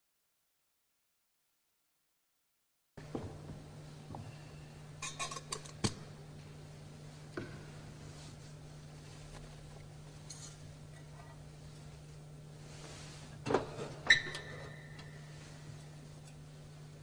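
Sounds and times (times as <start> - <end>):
faint steady hum: 3.0 - 17.0.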